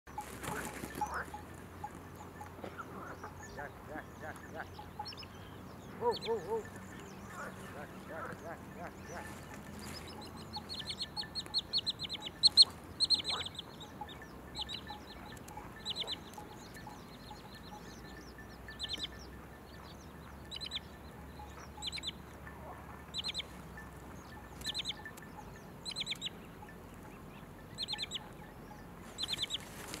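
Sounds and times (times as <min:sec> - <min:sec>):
songbird trilling: 0:00.1 - 0:22.3, 0:23.0 - 0:30.0.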